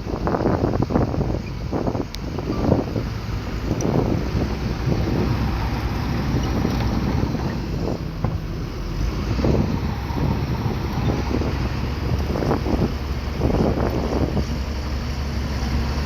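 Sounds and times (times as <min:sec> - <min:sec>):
bulldozer diesel engine running: 0:00.0 - 0:16.0
wind buffeting microphone: 0:00.0 - 0:16.0.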